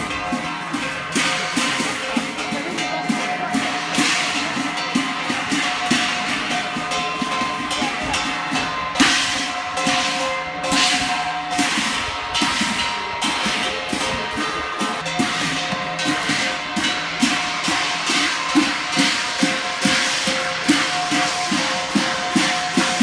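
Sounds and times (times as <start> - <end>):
cymbal crashes: 0.0 - 23.0
drum beaten in fast rhythm: 0.0 - 23.0.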